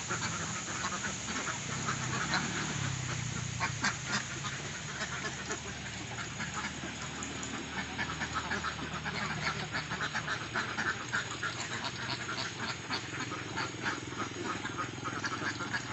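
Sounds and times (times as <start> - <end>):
ducks quacking: 0.0 - 15.9
ducks' bills clicking: 0.1 - 2.7, 3.6 - 15.9.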